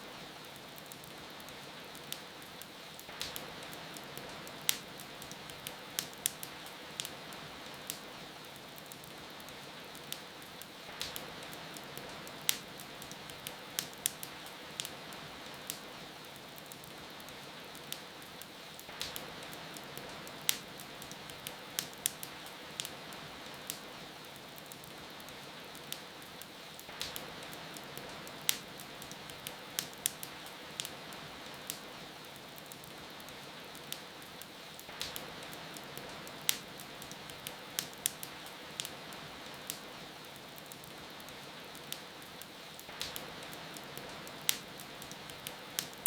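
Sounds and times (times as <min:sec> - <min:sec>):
rain hiss: 0:00.0 - 0:46.0
wood fire crackling and popping: 0:00.0 - 0:46.0.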